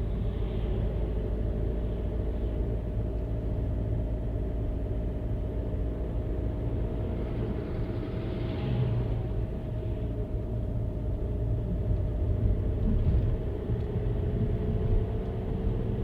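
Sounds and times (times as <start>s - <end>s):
car engine and tyres on road: 0.0s - 16.0s.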